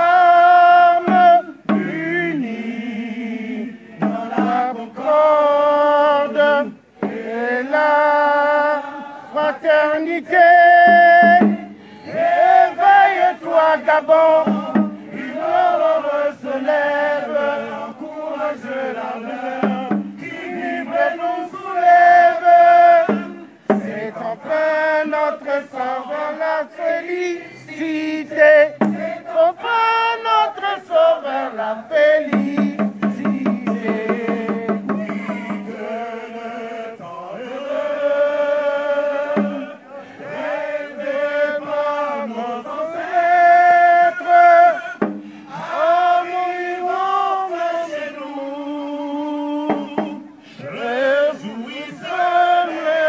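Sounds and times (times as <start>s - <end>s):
crowd singing an anthem: 0.0s - 53.0s.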